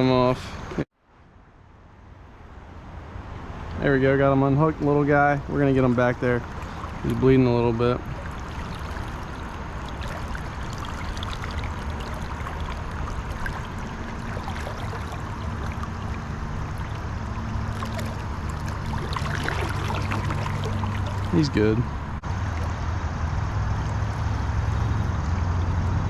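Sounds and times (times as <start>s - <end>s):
river current flowing: 4.4s - 26.0s.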